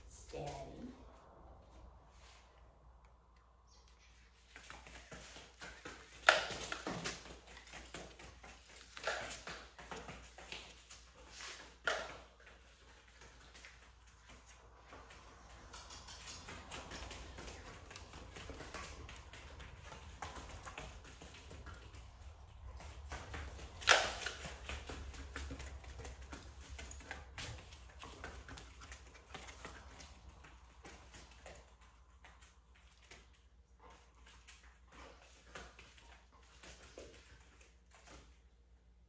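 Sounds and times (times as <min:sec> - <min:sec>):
dog claws tapping on foam mats: 0:04.6 - 0:38.4.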